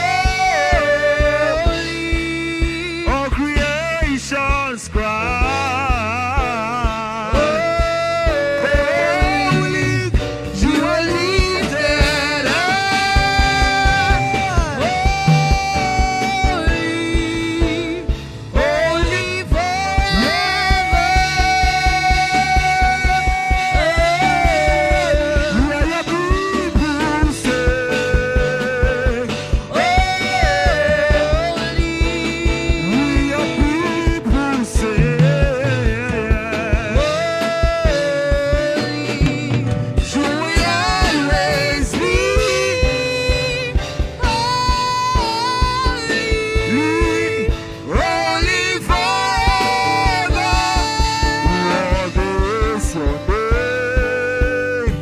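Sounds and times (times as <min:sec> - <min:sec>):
worship band music: 0:00.0 - 0:55.0
person singing long notes: 0:07.2 - 0:35.9, 0:36.8 - 0:55.0.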